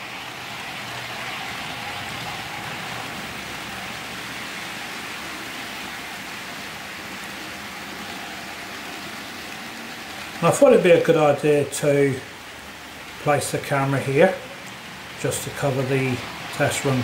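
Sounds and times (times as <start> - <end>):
model trains rumbling on rails: 0.0 - 17.0.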